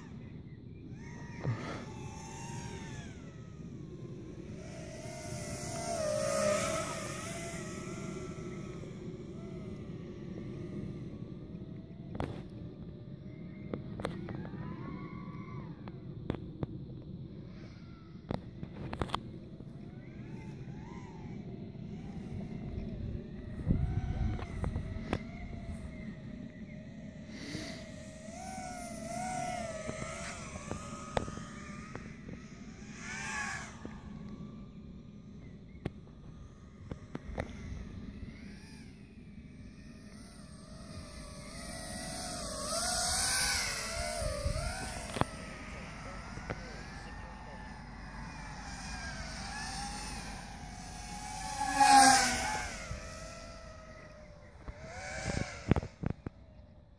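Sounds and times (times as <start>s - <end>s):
drone motors whining: 0.0s - 56.9s.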